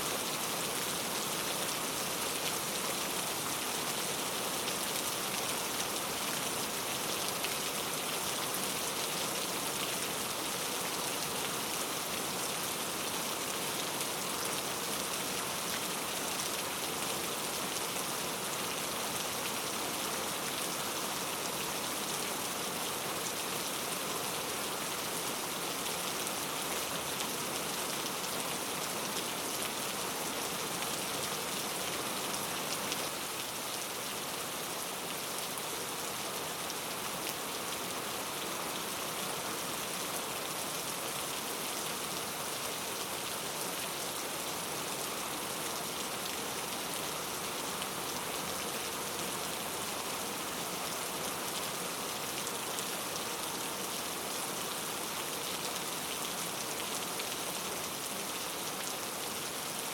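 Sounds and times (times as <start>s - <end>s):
rain on forest canopy: 0.0s - 59.9s.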